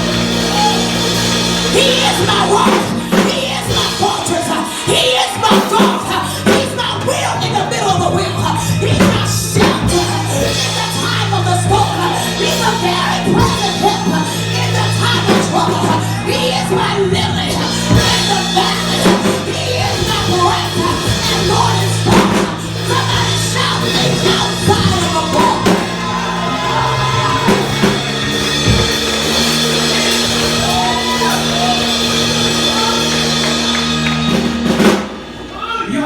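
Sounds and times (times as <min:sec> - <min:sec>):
drum kit hits: 0:00.0 - 0:07.3, 0:07.9 - 0:36.0
person singing and shouting: 0:00.0 - 0:33.6
keyboard chords: 0:00.0 - 0:36.0.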